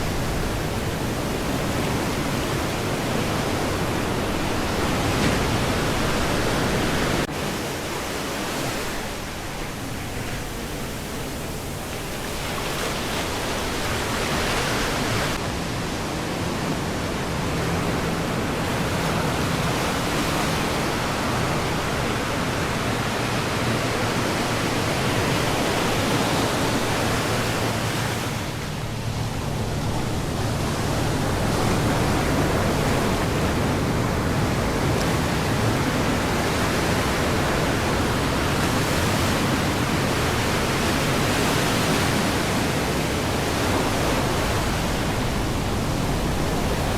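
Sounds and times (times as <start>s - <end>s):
ocean surf rushing: 0.0s - 46.9s.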